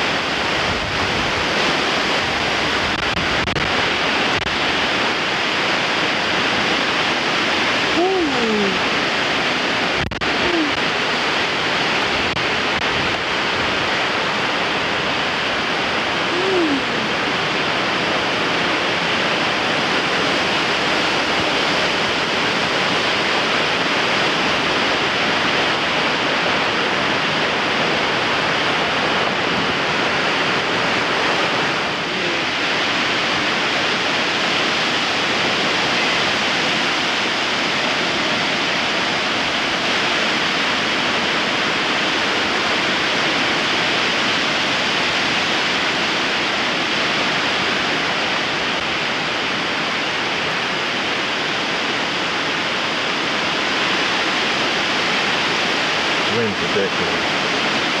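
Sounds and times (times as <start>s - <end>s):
strong wind on microphone: 0.0s - 58.0s.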